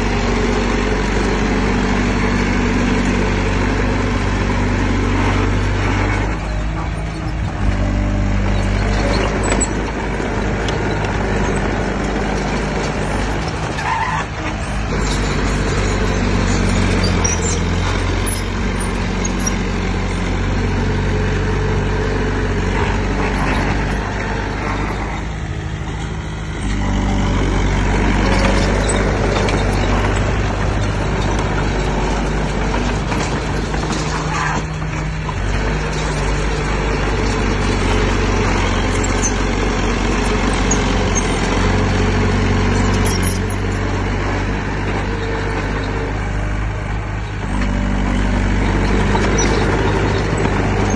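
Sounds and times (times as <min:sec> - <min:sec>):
heavy machinery diesel engine: 0:00.0 - 0:50.9.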